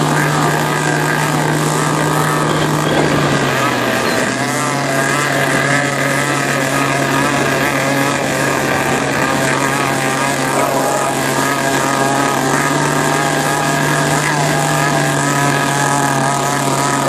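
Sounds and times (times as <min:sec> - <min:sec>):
motorboat engine droning: 0:00.0 - 0:17.0
wind and water rushing: 0:00.0 - 0:17.0.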